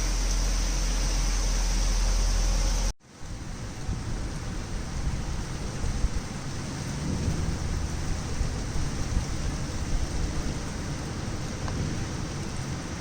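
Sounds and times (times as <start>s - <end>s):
torrential rain pouring: 0.0s - 13.0s.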